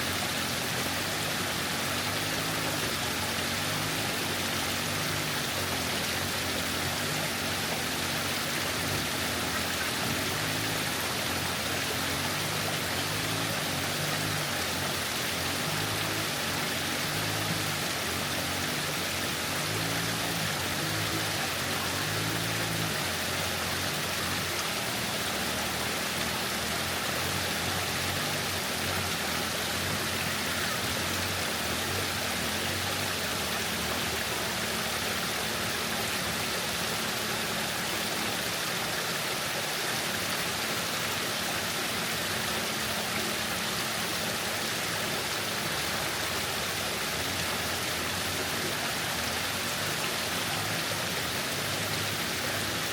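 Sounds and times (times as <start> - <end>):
waterfall rushing and splashing: 0.0 - 52.9.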